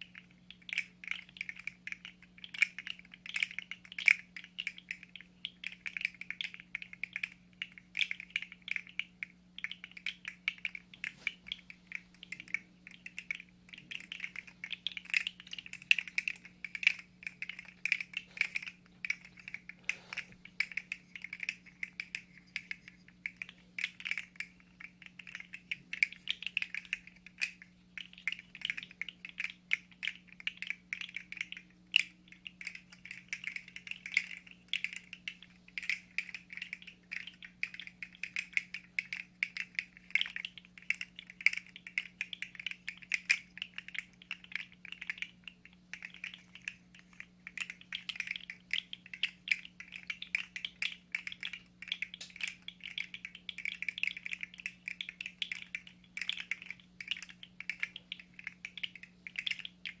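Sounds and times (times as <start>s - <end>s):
faint steady hum: 0.0s - 60.0s
plastic toy segments clicking: 0.0s - 60.0s.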